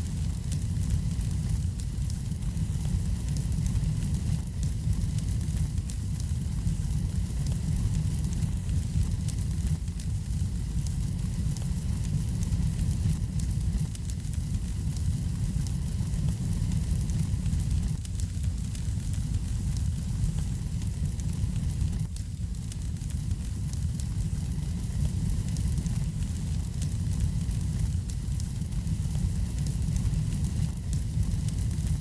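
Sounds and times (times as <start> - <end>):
fire low rumble: 0.0 - 32.0
wood fire crackling and popping: 0.0 - 32.0.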